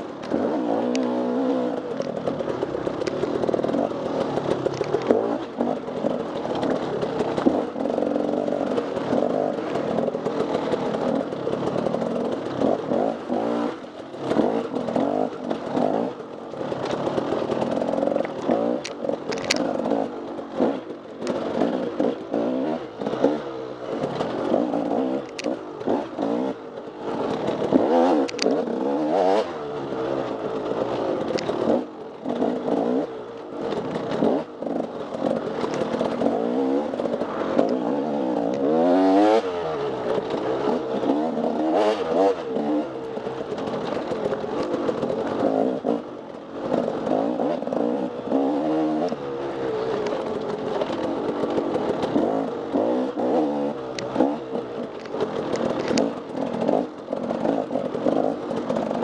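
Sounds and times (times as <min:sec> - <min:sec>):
clatter and scraping: 0:00.0 - 0:59.0
dirt bike engine revving: 0:00.0 - 0:59.0.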